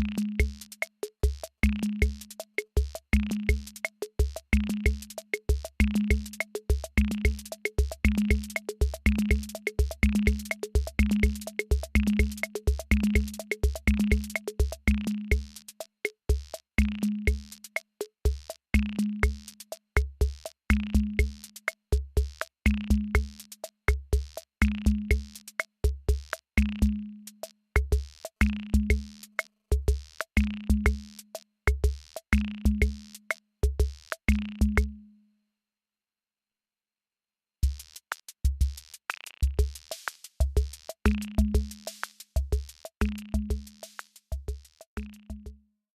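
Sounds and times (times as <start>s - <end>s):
electronic drum machine beat: 0.0s - 27.0s, 27.8s - 34.9s, 37.6s - 45.6s.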